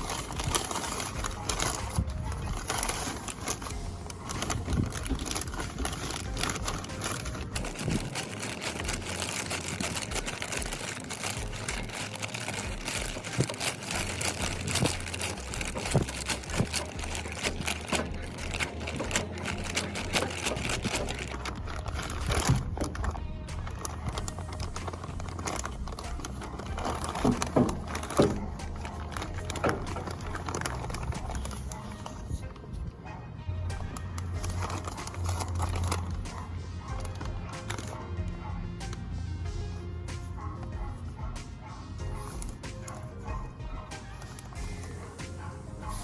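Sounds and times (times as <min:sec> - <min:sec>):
handling noise clicking and clatter: 0:00.0 - 0:46.0.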